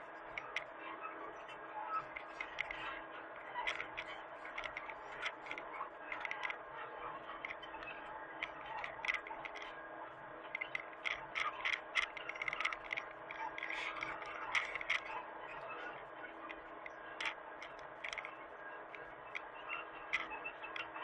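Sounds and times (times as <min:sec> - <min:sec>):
rapid clicking and scraping: 0:02.1 - 0:06.6, 0:07.4 - 0:09.8, 0:10.5 - 0:21.0.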